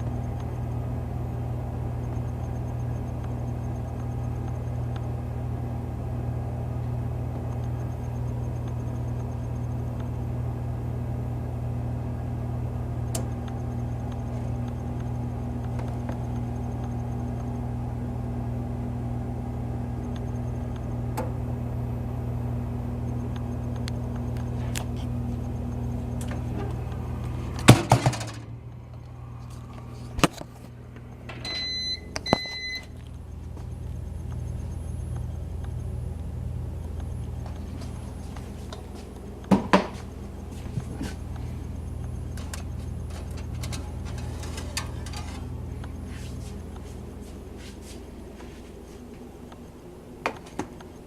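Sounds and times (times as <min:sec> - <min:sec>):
low machine hum: 0:00.0 - 0:51.0.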